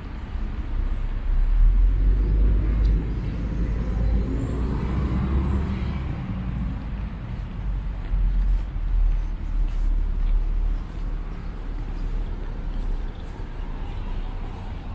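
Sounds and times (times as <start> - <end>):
road traffic rumble: 0.0 - 14.9
vehicle passing: 0.0 - 14.9.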